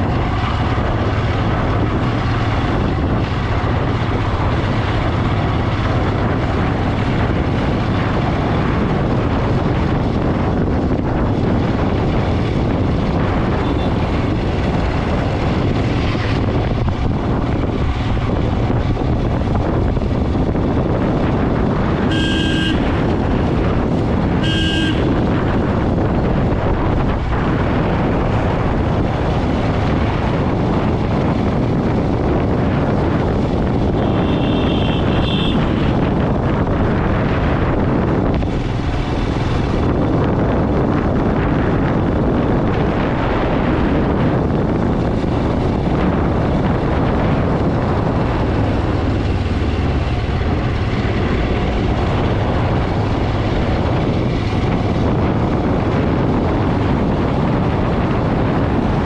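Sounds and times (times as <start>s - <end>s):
motorcycle engine: 0.0s - 59.0s
wind buffeting microphone: 0.0s - 59.0s.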